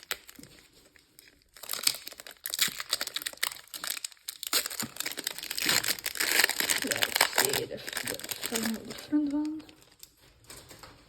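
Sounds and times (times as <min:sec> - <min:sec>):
foil wrapper crinkling: 0:00.0 - 0:10.4.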